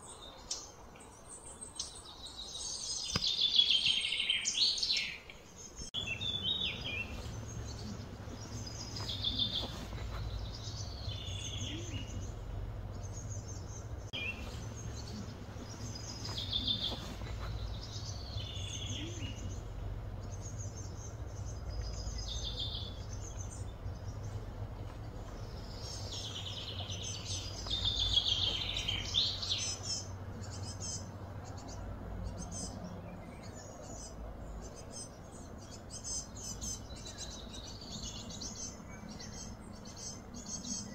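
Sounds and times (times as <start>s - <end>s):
low outdoor rumble: 0.0s - 40.9s
songbird chirping: 0.0s - 40.9s.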